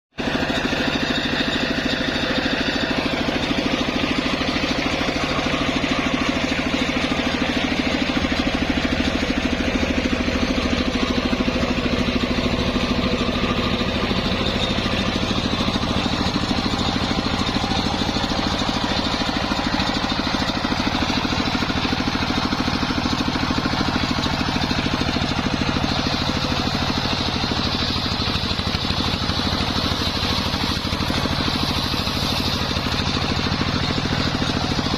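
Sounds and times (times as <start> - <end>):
sawmill machine drone: 0.1 - 34.9.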